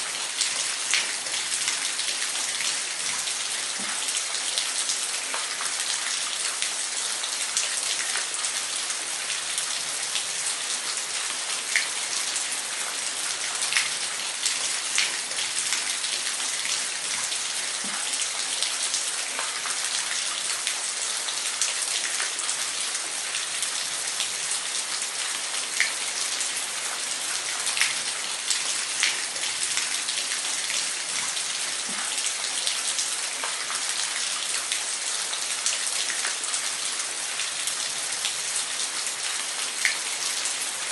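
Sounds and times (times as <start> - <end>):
water splashes and drips: 0.0 - 40.9.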